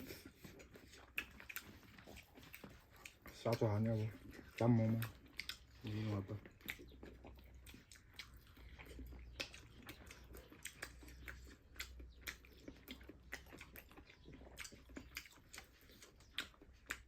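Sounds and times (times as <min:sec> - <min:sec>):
chewing food: 0:00.0 - 0:17.0
mouth clicks and smacks: 0:00.0 - 0:17.0.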